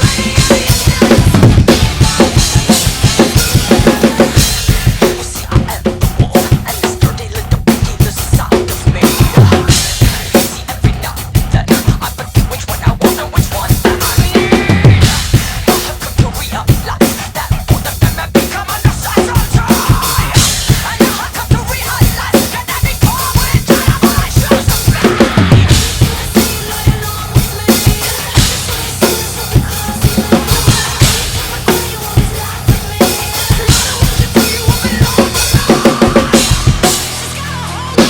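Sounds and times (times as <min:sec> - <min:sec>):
drum kit played hard: 0:00.0 - 0:38.0
heavy band music: 0:00.0 - 0:38.0.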